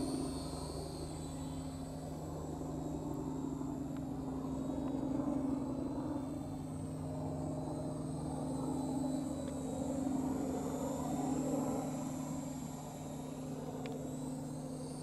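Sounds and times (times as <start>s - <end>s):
model airplane motor droning: 0.0s - 15.0s.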